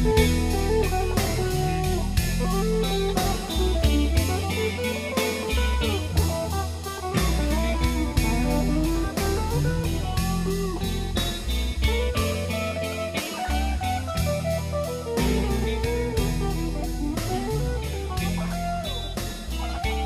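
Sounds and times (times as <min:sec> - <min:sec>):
bass: 0:00.0 - 0:20.0
drum kit: 0:00.0 - 0:20.0
guitar melody: 0:00.0 - 0:20.0.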